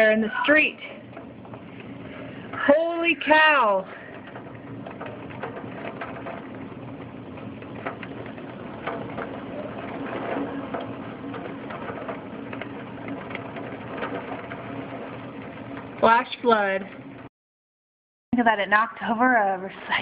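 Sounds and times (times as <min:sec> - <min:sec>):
rain falling steadily: 0:00.0 - 0:17.3.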